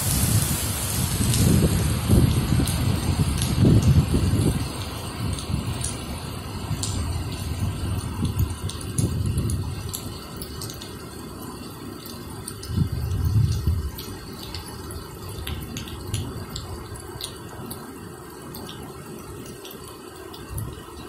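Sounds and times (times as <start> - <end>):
rain falling: 0.0 - 21.0
raindrops ticking: 0.2 - 21.0.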